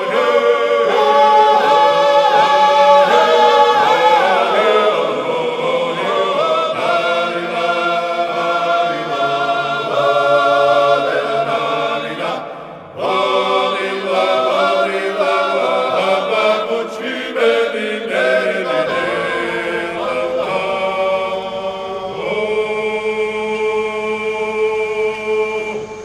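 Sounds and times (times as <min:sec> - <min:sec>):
choir singing a chant in harmony: 0:00.0 - 0:26.0.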